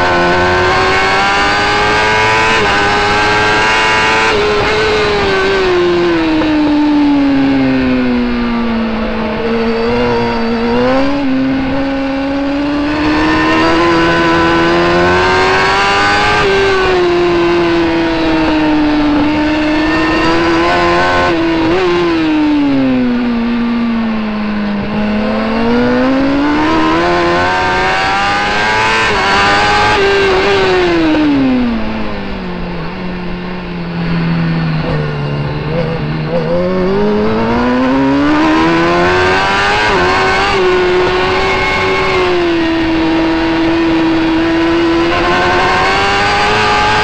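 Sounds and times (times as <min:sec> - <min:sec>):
motorcycle engine revving high: 0:00.0 - 0:47.0.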